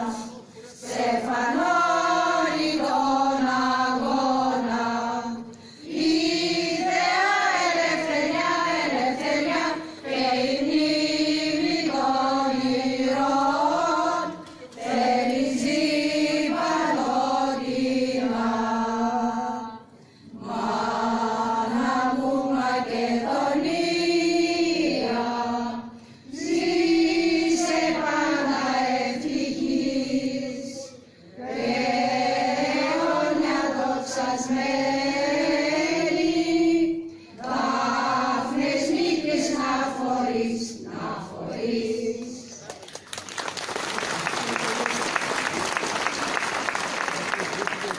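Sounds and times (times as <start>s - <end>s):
choir chanting: 0.0s - 42.5s.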